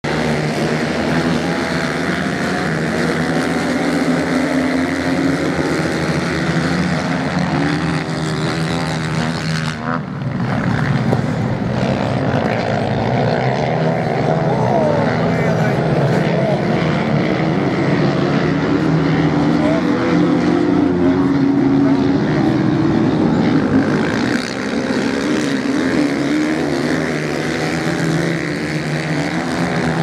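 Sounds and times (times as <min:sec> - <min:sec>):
motorcycle engines racing: 0:00.0 - 0:30.0.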